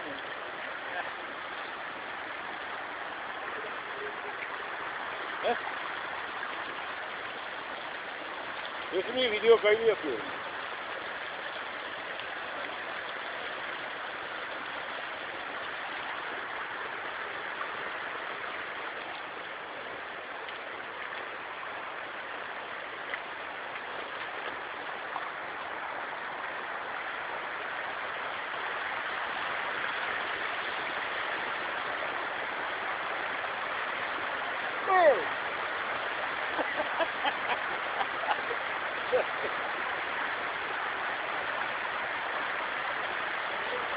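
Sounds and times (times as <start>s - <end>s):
stream rushing over stones: 0.0s - 43.9s.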